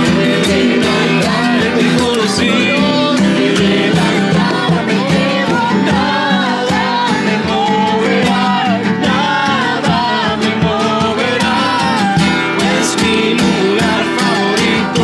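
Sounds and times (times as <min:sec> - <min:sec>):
person singing: 0:00.0 - 0:15.0
strummed guitar: 0:00.0 - 0:15.0.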